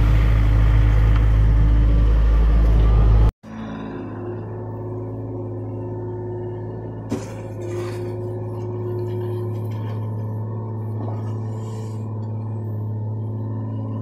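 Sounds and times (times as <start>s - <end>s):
diesel engine running: 0.0s - 14.0s
hydraulic whine: 0.0s - 14.0s.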